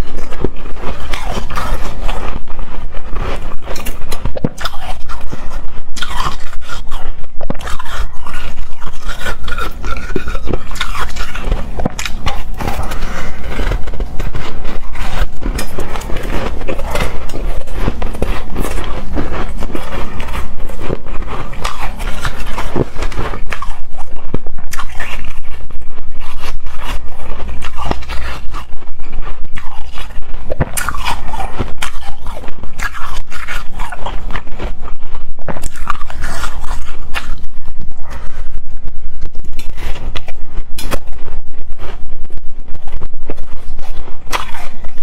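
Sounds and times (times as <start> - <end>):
chewing crunchy shaved ice: 0.0 - 41.1, 43.2 - 45.0.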